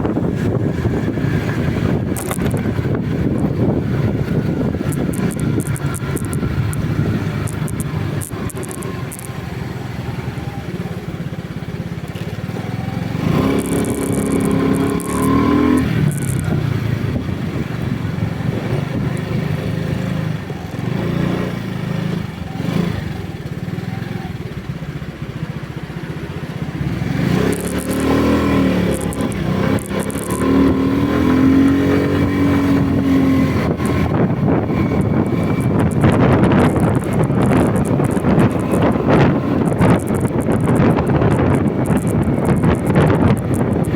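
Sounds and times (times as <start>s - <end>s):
vehicle engine rumbling: 0.0s - 43.9s.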